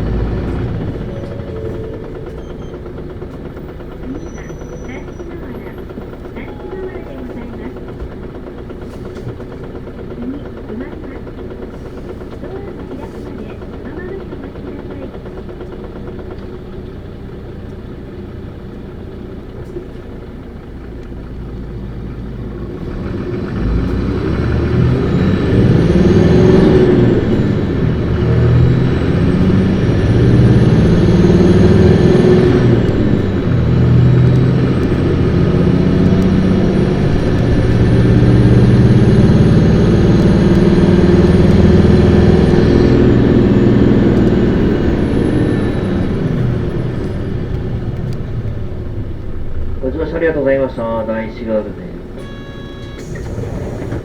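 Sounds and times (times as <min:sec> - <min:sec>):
bus diesel engine revving: 0:00.0 - 0:54.0.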